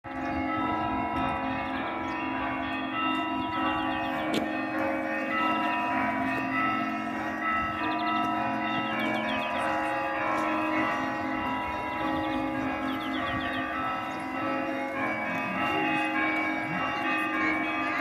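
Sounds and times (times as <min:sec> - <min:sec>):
church bells pealing: 0:00.0 - 0:18.0.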